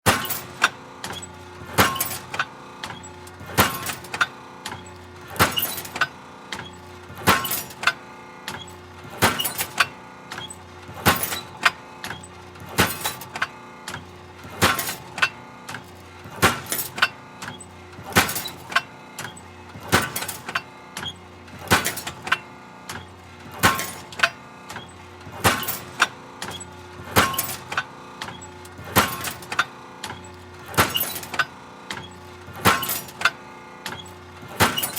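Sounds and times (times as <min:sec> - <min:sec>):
metal shear blade pounding: 0:00.1 - 0:06.6, 0:07.2 - 0:07.9, 0:09.1 - 0:11.8, 0:12.7 - 0:15.8, 0:16.4 - 0:24.8, 0:25.4 - 0:31.6, 0:32.6 - 0:34.9.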